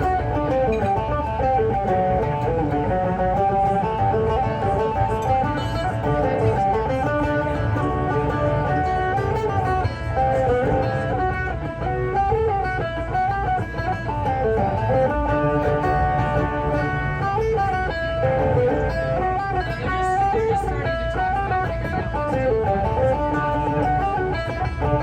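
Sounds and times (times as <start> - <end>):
bass and drums: 0.0 - 20.0
electric guitar lines: 0.0 - 25.0
rock band playing: 0.0 - 25.0
strummed guitar: 0.0 - 25.0.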